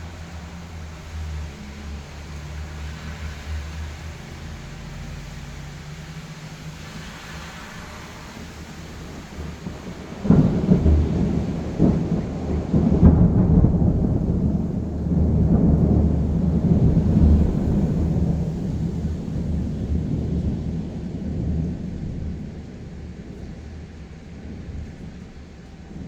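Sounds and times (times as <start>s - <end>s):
steady rain: 0.0s - 26.0s
thunder: 0.0s - 26.0s.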